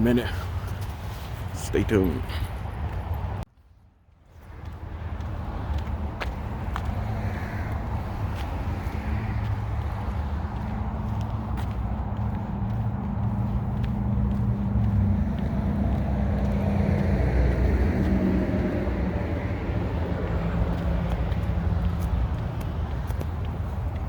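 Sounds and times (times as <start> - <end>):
highway traffic rumble: 0.0 - 24.0.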